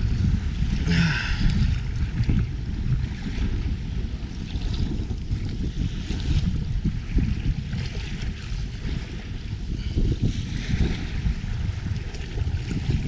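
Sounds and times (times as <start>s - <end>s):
waves splashing against a boat: 0.0s - 13.0s
wind buffeting the microphone: 0.0s - 13.0s.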